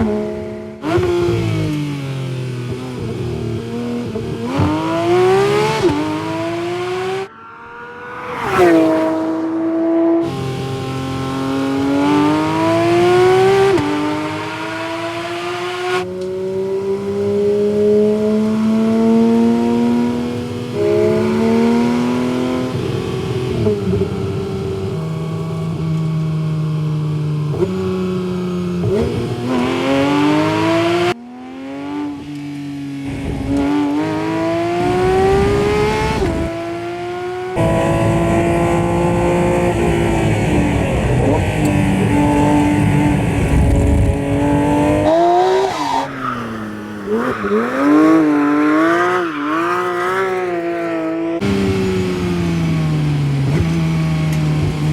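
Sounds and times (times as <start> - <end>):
car engine revving through gears: 0.0 - 54.9.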